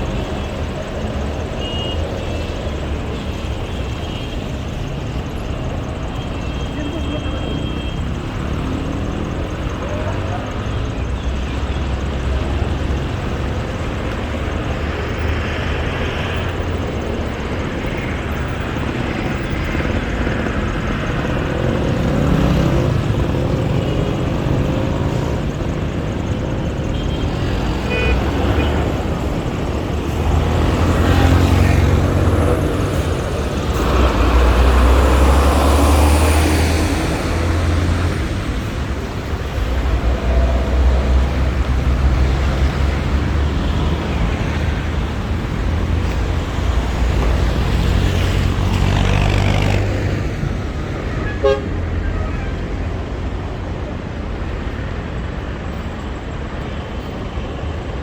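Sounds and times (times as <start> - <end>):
faint voices of passers-by: 0.0 - 58.0
street traffic: 0.0 - 58.0
vehicles passing close: 0.0 - 58.0.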